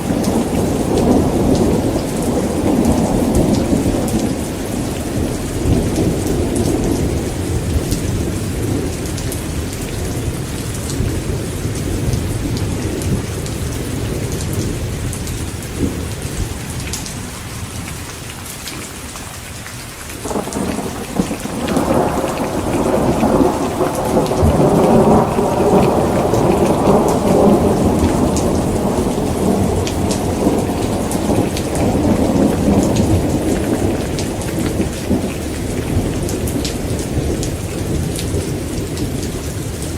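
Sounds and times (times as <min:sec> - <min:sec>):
rolling thunder: 0:00.0 - 0:17.0, 0:20.2 - 0:39.9
heavy rain falling: 0:00.0 - 0:39.9.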